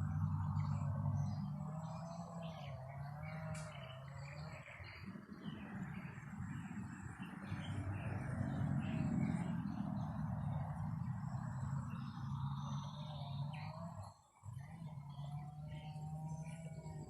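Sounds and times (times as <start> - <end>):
wind buffeting microphone: 0.0 - 13.8
small birds chirping: 0.0 - 17.0.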